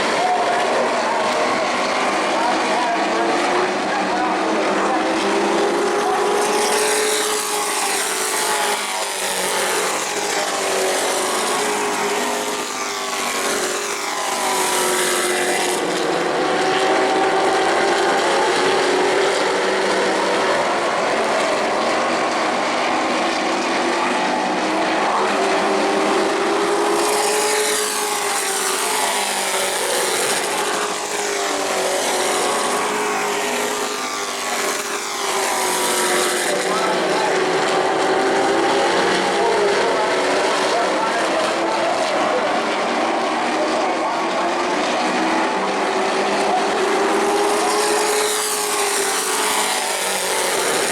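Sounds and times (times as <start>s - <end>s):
racing truck engines passing by: 0.0s - 50.9s.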